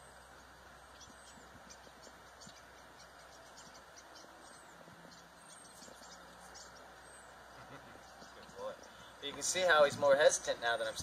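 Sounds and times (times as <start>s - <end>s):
distant bird chirps: 0.0s - 11.0s.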